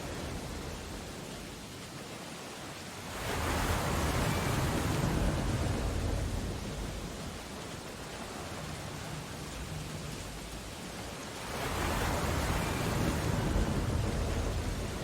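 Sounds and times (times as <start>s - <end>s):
ocean surf: 0.0s - 15.0s
rain: 0.0s - 15.0s
wave surging and washing back: 0.0s - 15.0s.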